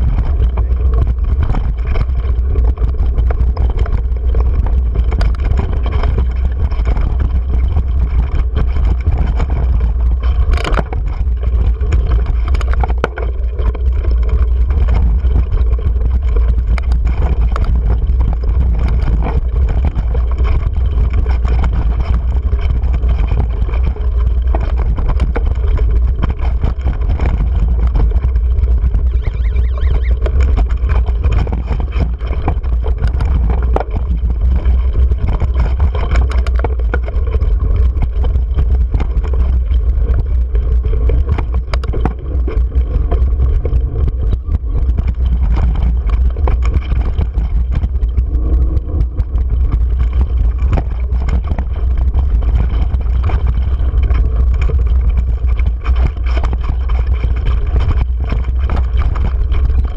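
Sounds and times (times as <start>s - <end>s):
bike rattling over rocky trail: 0.0s - 59.9s
wind rumble on microphone: 0.0s - 59.9s.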